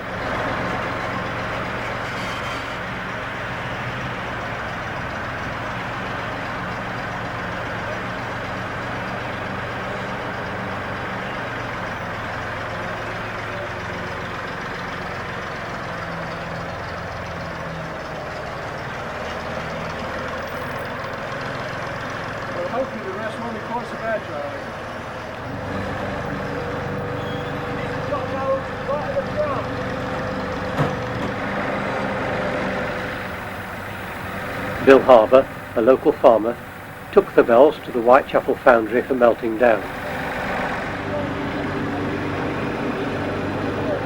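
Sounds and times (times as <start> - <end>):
engine running steadily: 0.0 - 44.0.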